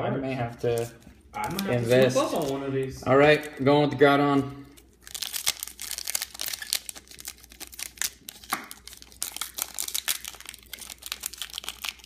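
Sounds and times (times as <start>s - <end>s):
foil wrapper crinkling and tearing: 0.6s - 3.7s, 4.6s - 12.0s.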